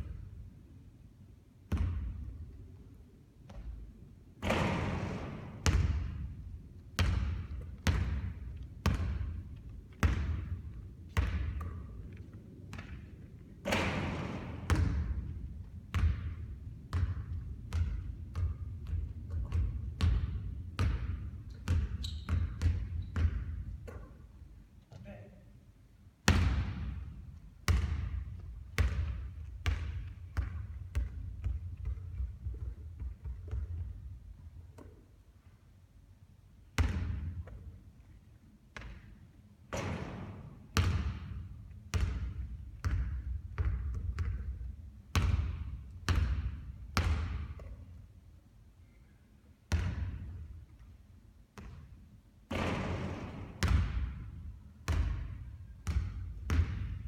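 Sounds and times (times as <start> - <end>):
basketball bouncing on a court: 1.7 - 2.6, 3.4 - 24.2, 26.2 - 35.0, 36.8 - 37.8, 38.7 - 48.0, 49.7 - 50.8, 51.6 - 57.0.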